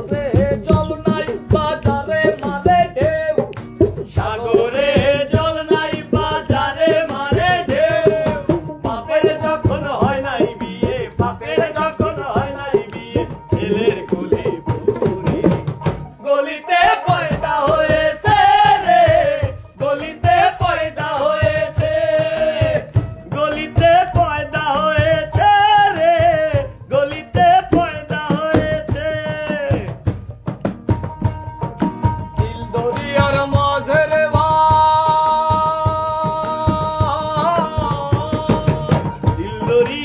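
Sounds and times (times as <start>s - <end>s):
man singing: 0.0s - 30.2s, 32.2s - 40.0s
hand drum beating: 0.0s - 40.0s.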